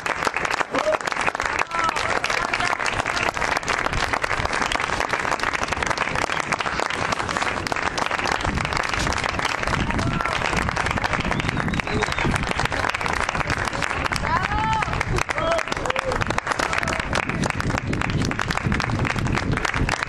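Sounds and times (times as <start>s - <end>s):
crowd clapping: 0.0s - 20.0s.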